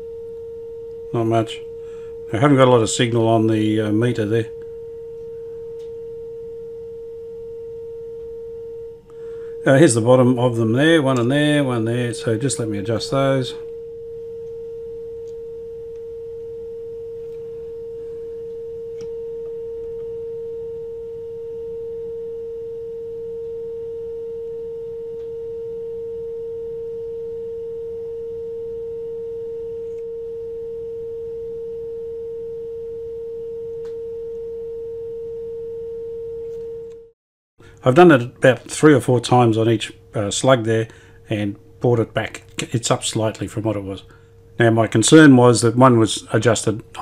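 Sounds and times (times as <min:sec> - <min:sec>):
steady test tone from speaker: 0:00.0 - 0:47.0.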